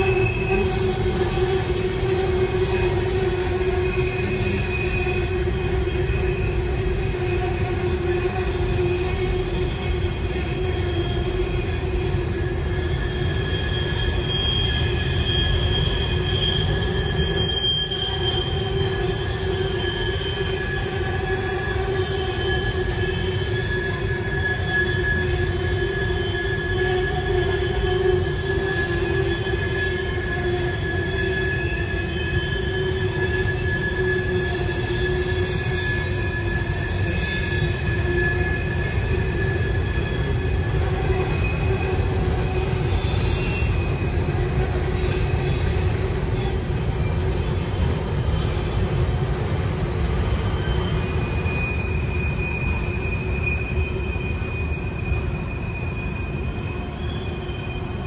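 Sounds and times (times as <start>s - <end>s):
freight train rumbling past: 0.0s - 58.0s
train wheels squealing: 0.0s - 58.0s.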